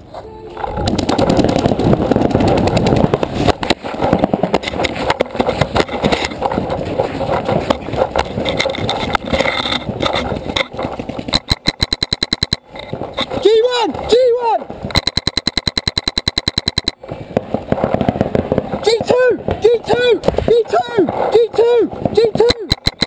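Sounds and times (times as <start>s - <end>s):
rough rumbling and rattling: 0.0s - 23.0s
paintball markers popping: 0.6s - 14.1s, 14.9s - 20.6s, 22.1s - 23.0s.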